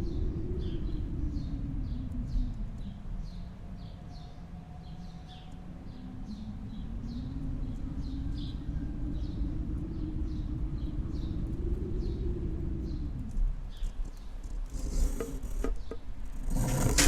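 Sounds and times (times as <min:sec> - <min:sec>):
low rumble: 0:00.0 - 0:17.0
small birds chirping: 0:00.0 - 0:17.0.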